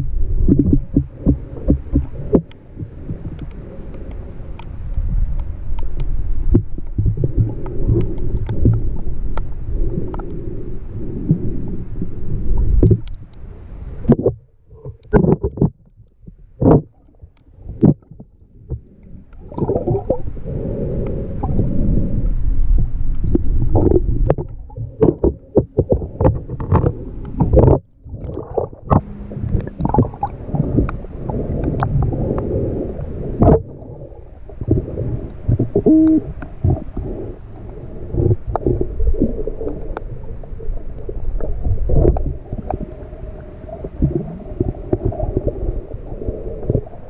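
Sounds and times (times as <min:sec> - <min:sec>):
underwater rumbling and sloshing: 0:00.0 - 0:47.0.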